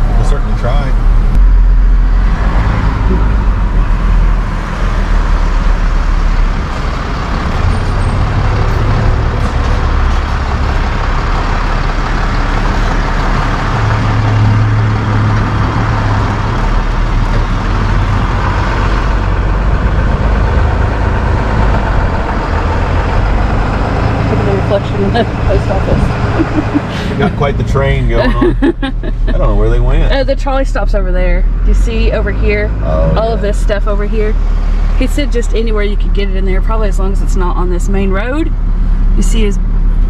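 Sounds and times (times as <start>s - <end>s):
road noise: 0.0s - 40.0s
truck engine drone: 0.0s - 40.0s.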